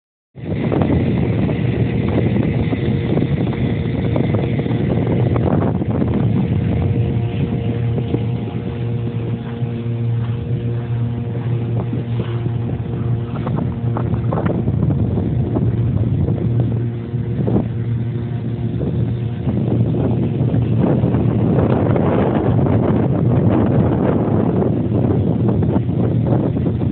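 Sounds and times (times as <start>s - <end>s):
outboard motor droning: 0.4s - 26.9s
water splashing against hull: 0.4s - 26.9s
wind buffeting microphone: 0.4s - 26.9s.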